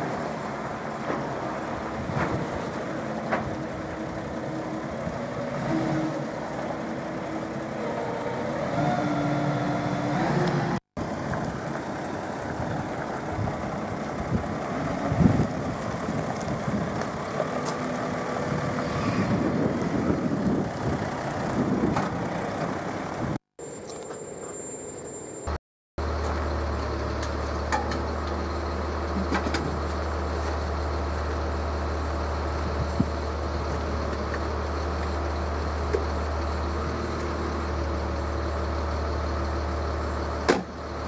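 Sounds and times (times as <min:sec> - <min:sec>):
heavy diesel machinery running: 0:00.0 - 0:23.4, 0:24.2 - 0:41.0.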